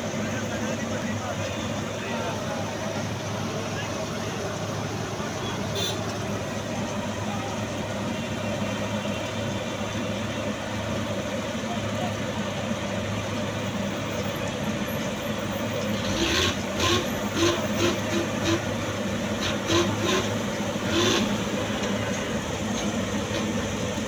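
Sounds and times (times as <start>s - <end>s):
engines humming: 0.0s - 24.0s.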